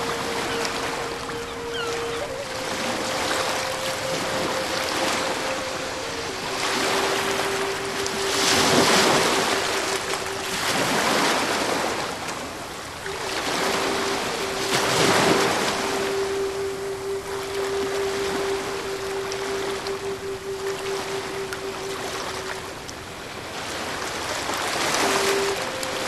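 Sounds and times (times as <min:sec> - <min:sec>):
steady held tone: 0:00.0 - 0:23.3, 0:24.8 - 0:26.0
ocean surf washing in: 0:00.0 - 0:26.0.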